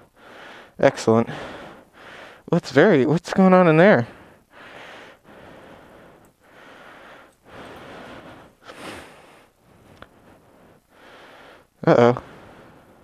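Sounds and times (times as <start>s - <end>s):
person breathing heavily: 0.0s - 2.5s, 4.0s - 13.0s.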